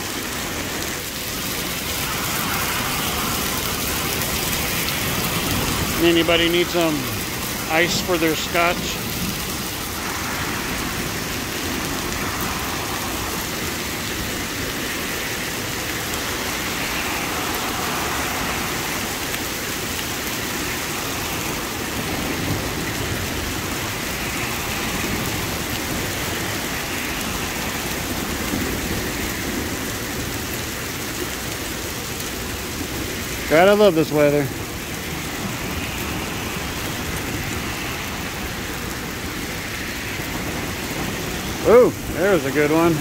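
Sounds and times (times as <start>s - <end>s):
hail and heavy rain on pavement: 0.0s - 43.0s.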